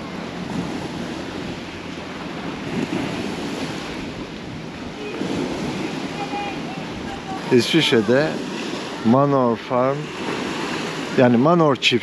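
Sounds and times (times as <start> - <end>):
wind buffeting microphone: 0.0 - 11.6
waves washing against shore: 0.0 - 12.0.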